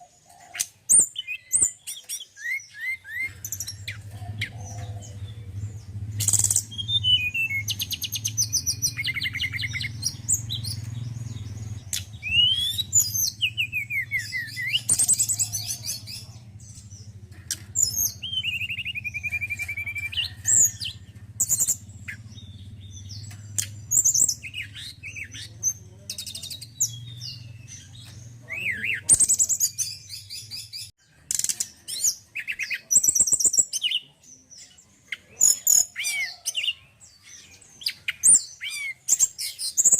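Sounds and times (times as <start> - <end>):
bird chirps trills and whistles: 0.0 - 39.9.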